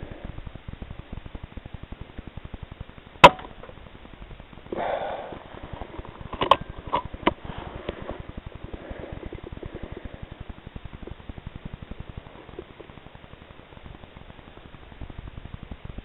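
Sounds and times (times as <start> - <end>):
fast steady ticking: 0.0 - 16.0.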